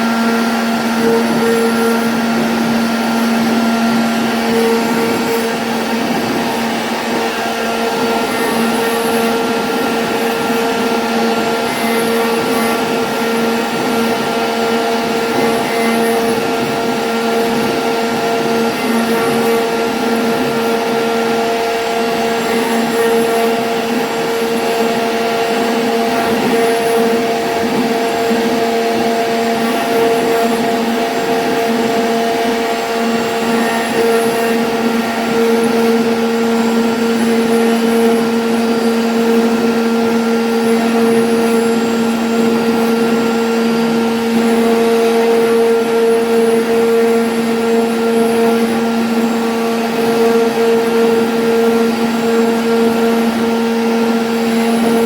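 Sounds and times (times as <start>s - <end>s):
cutting hiss: 0.0s - 55.0s
router spindle whine: 0.0s - 55.0s.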